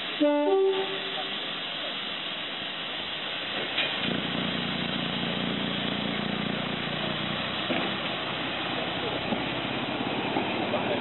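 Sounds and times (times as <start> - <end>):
diesel railcar engine idling: 0.0 - 11.0
steady hiss: 0.0 - 11.0.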